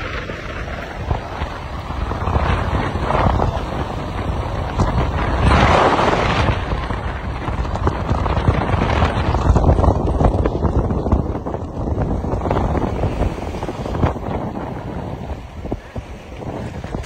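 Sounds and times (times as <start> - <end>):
moving vehicle rumble: 0.0 - 17.0
wind buffeting microphone: 0.0 - 17.0.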